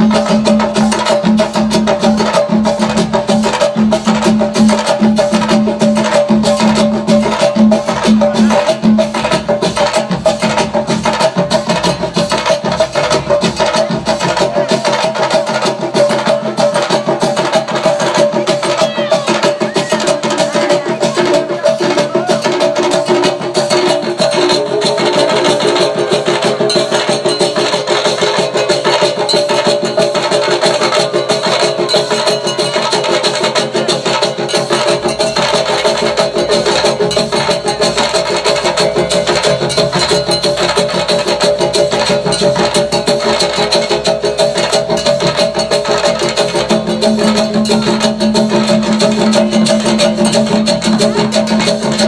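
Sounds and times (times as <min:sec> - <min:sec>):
percussion music: 0:00.0 - 0:52.0.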